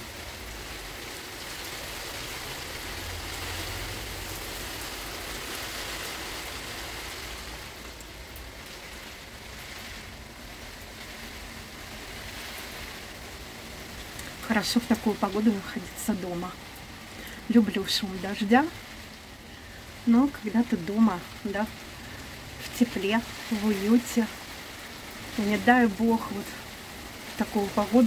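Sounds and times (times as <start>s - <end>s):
heavy rain on paving and leaves: 0.0s - 28.0s.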